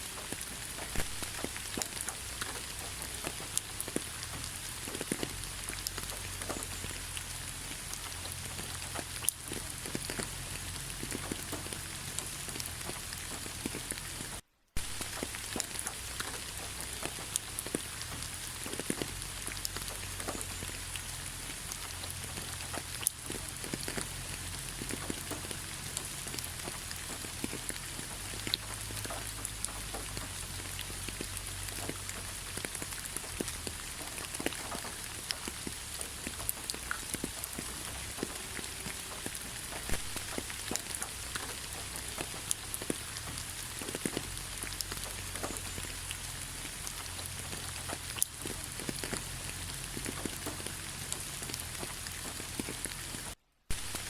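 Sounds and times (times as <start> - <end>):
rain falling in a forest: 0.0 - 54.0
raindrops striking close by: 0.0 - 54.0.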